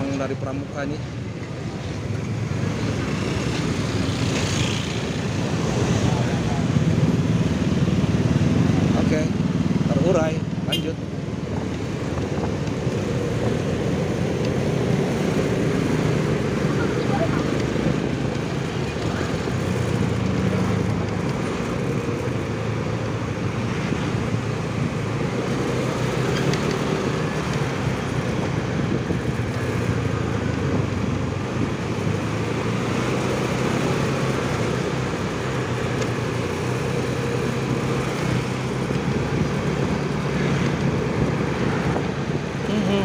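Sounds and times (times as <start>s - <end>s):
road and traffic noise: 0.0s - 43.0s.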